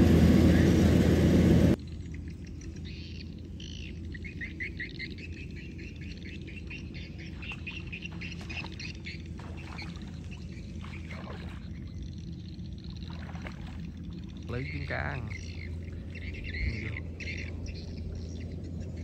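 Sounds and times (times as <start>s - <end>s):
low steady rumble: 0.0s - 19.0s
bird chirping: 1.9s - 19.0s.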